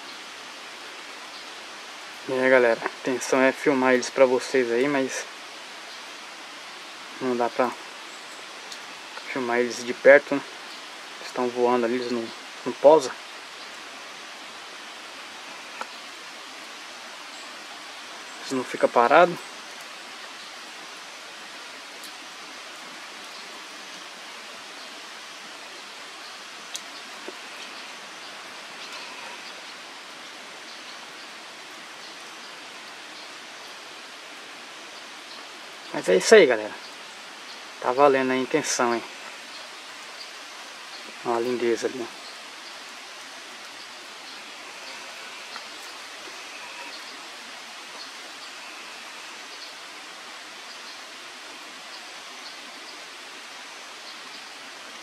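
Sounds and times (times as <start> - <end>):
rain falling on pond: 0.0 - 55.0.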